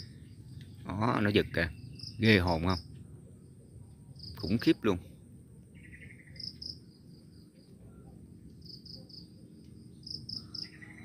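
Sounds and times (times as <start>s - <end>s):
crickets chirping: 0.0s - 11.0s
low steady rumble: 0.0s - 11.0s.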